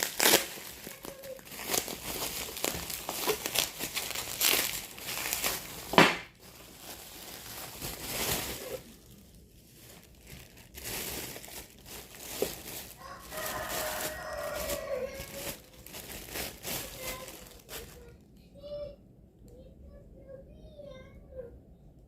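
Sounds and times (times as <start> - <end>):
plastic packaging crinkling: 0.0 - 18.1.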